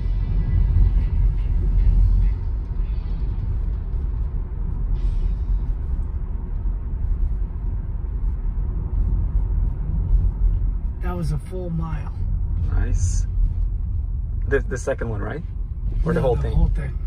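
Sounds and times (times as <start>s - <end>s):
road and tyre rumble in car cabin: 0.0s - 17.0s.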